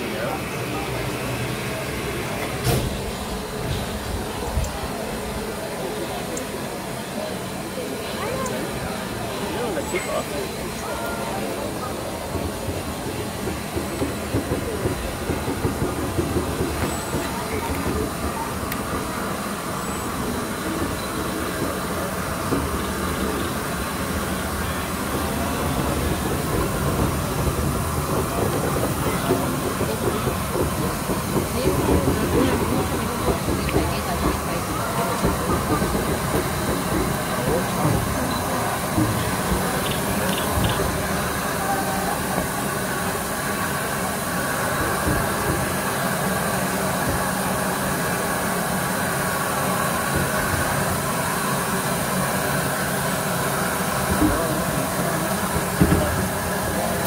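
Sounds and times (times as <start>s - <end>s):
steam locomotive wheels rumbling: 0.0s - 57.0s.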